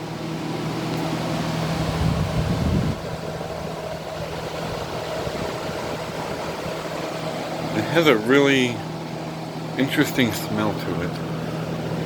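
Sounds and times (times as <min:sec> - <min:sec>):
air conditioner fan rushing: 0:00.0 - 0:12.0.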